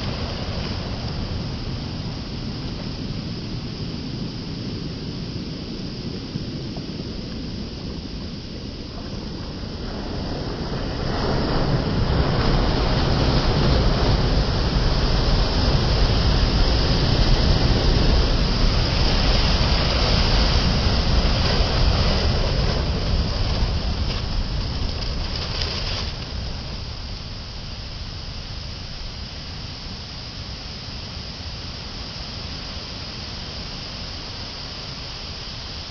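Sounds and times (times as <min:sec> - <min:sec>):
waves roaring: 0:00.0 - 0:30.6.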